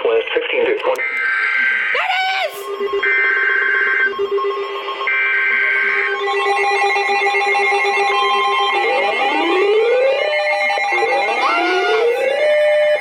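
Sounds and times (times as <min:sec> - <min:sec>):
steady warning alarm tone: 0:01.0 - 0:13.0.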